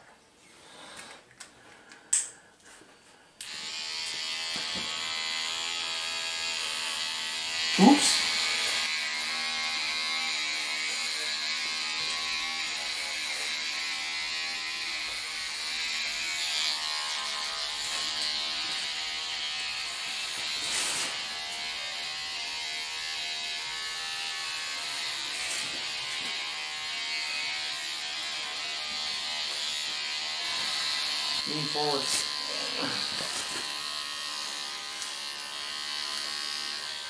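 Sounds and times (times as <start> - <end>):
electric hair clippers buzzing: 3.4 - 37.0.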